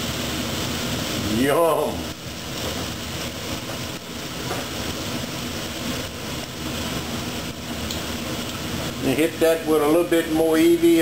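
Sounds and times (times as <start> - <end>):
food bubbling in deep fryer oil: 0.0 - 11.0
meat sizzling in a skillet: 0.0 - 11.0.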